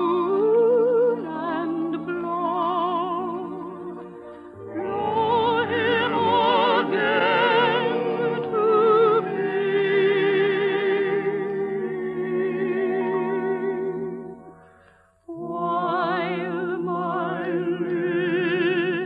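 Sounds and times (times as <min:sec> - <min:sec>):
operatic singing with orchestra: 0:00.0 - 0:14.6, 0:15.3 - 0:19.0.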